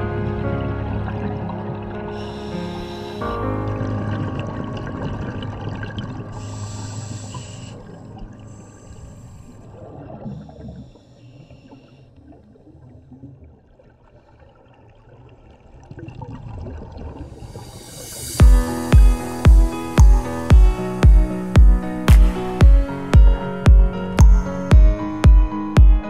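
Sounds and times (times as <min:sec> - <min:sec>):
underwater bubbling and gurgling: 0:00.0 - 0:24.6.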